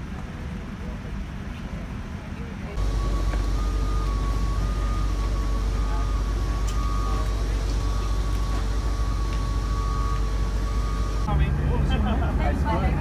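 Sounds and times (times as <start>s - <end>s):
deep engine rumble: 0.0s - 13.0s
steady high whine: 0.0s - 13.0s.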